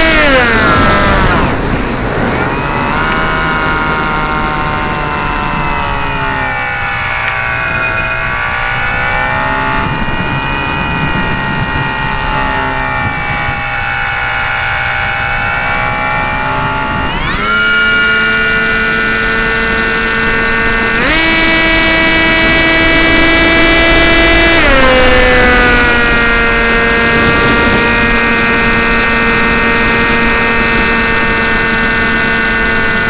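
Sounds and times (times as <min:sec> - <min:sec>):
model aircraft motor whining: 0:00.0 - 0:33.0.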